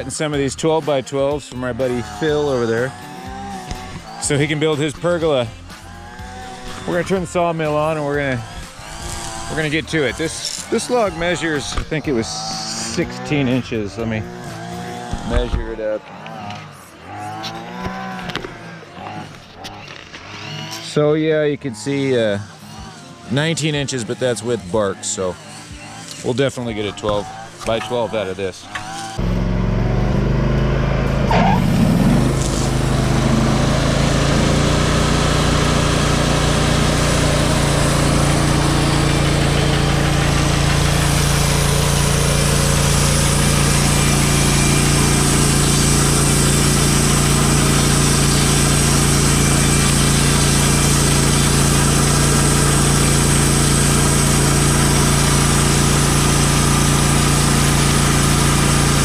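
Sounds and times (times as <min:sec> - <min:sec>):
saw cutting log: 0:00.0 - 0:59.0
sawmill engine running: 0:00.0 - 0:59.0.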